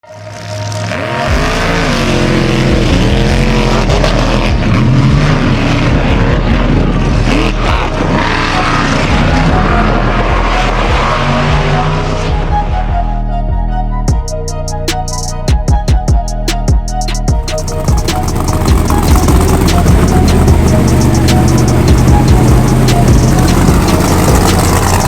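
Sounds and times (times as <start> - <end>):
monster truck engines revving: 0.1 - 12.8, 17.4 - 25.0.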